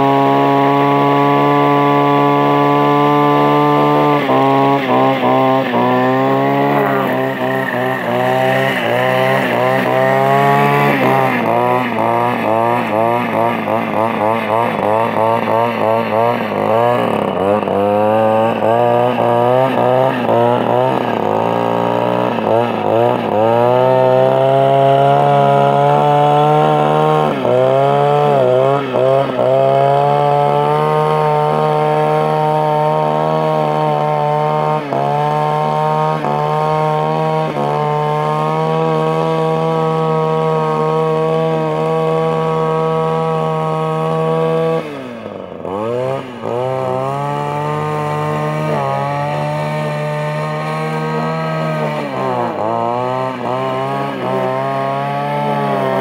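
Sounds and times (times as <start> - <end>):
string trimmer engine revving: 0.0 - 56.0.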